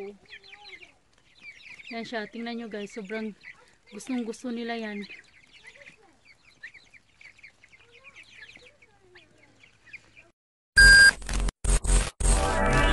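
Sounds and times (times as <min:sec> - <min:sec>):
poultry peeping: 0:00.0 - 0:11.0.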